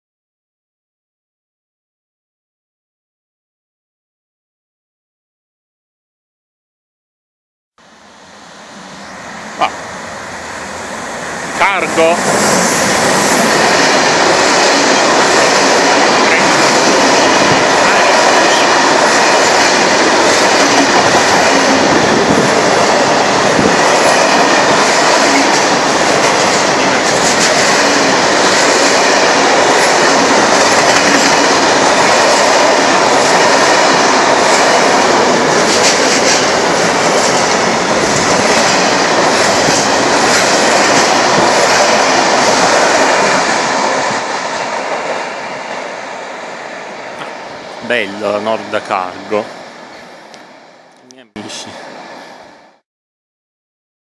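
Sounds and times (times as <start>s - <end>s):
freight train rumbling past: 7.9s - 52.8s.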